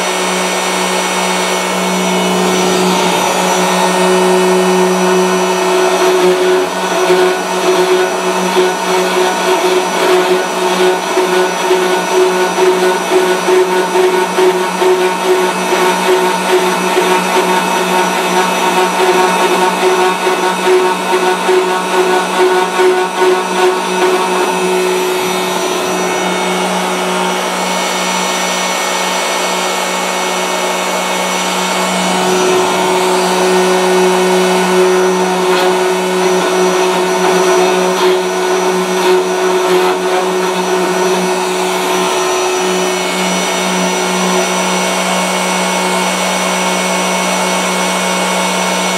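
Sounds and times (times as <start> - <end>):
router motors humming and whining: 0.0 - 48.9.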